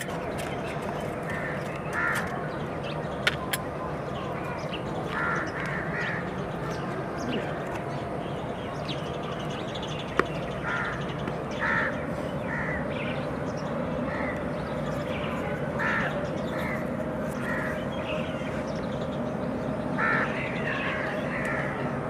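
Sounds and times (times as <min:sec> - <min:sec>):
harsh bird calls: 0:00.0 - 0:22.0
steady background hum: 0:00.0 - 0:22.0.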